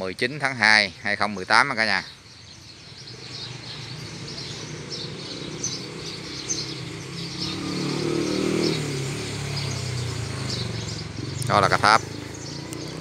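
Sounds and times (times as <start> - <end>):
small birds chirping: 0.0 - 13.0
engine humming: 2.6 - 13.0.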